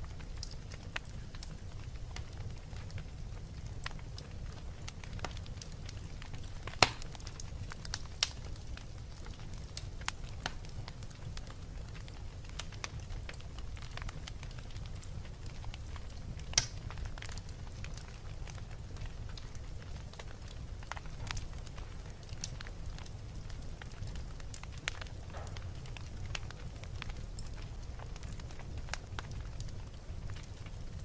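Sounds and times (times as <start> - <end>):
fire crackling and popping: 0.0 - 31.0
low fire rumble: 0.0 - 31.0.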